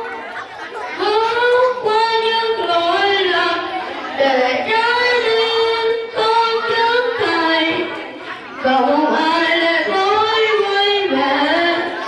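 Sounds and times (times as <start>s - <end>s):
child singing: 0.8s - 12.0s.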